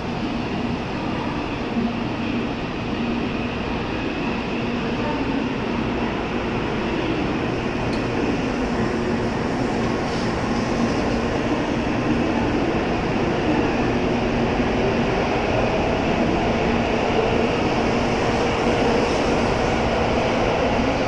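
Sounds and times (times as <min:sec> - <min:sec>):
high-speed train pulling away: 0:00.0 - 0:21.0.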